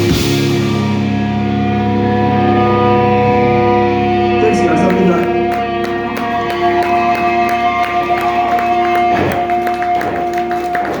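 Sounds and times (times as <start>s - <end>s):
electric guitars ringing: 0.0s - 11.0s
live band music: 0.0s - 11.0s.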